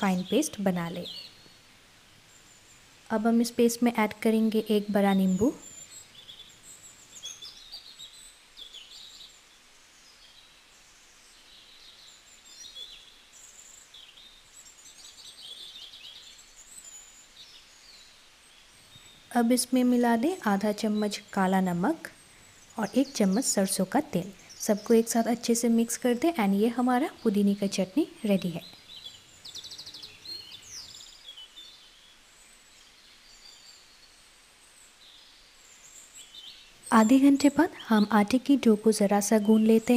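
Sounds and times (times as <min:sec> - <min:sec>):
room hiss: 0:00.0 - 0:39.0
birds chirping and trilling: 0:00.0 - 0:39.9.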